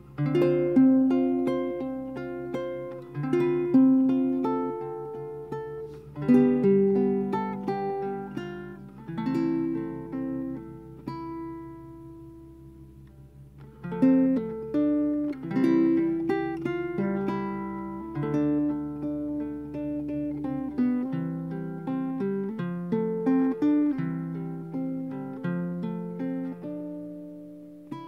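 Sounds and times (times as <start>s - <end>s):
solo ukulele melody: 0.0s - 28.0s.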